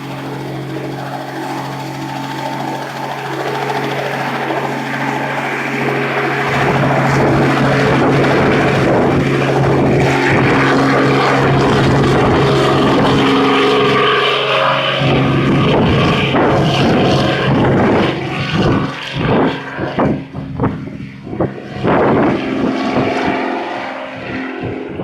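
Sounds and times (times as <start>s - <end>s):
helicopter rotor and engine: 0.0s - 25.0s.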